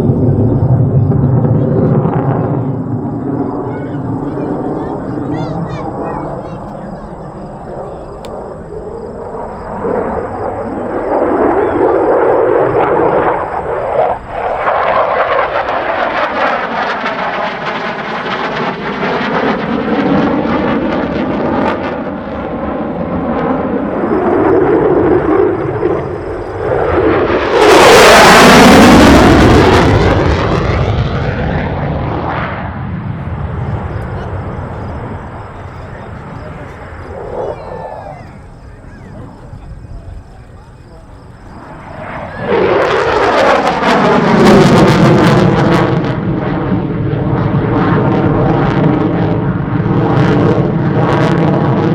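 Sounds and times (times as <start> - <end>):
fighter jet engine roaring overhead: 0.0 - 51.9.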